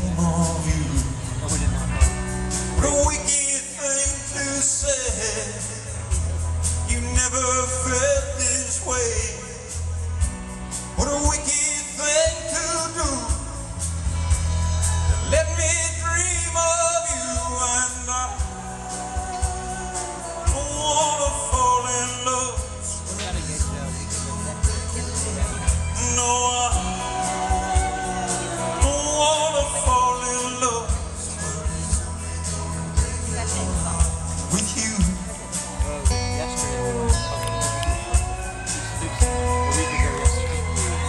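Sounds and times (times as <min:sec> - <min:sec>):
man singing lead: 0:00.0 - 0:06.2, 0:06.8 - 0:09.9, 0:10.9 - 0:13.8, 0:15.1 - 0:41.0
drums: 0:00.0 - 0:41.0
electric guitar: 0:00.0 - 0:41.0.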